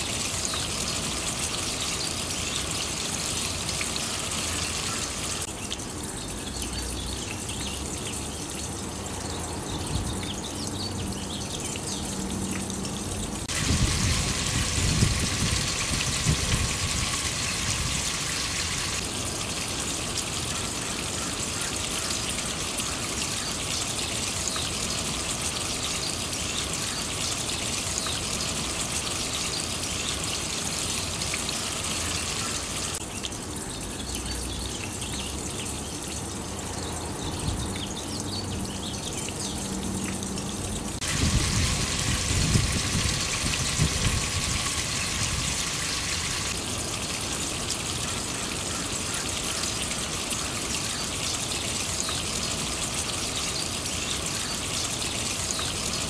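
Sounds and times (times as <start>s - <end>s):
water trickling down a rain chain: 0.0s - 56.0s.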